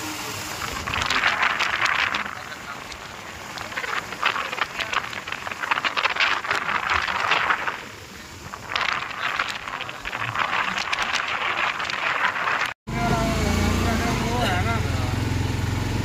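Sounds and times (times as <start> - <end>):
road noise hiss: 0.0 - 16.0.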